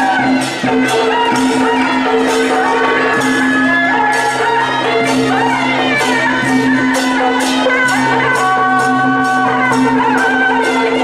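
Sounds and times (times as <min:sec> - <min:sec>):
metal percussion strikes: 0:00.0 - 0:11.0.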